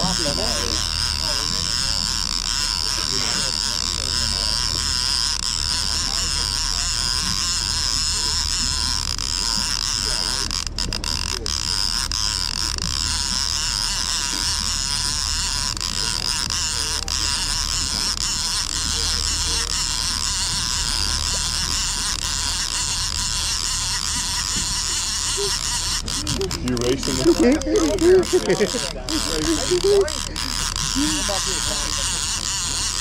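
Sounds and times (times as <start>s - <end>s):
outboard motors humming: 0.0s - 33.0s.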